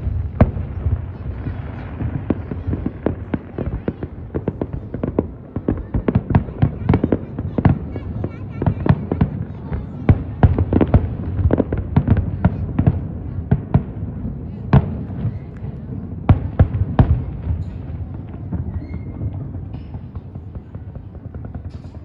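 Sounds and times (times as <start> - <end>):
fireworks booming: 0.0 - 22.0
fireworks crackling pops: 0.0 - 22.0.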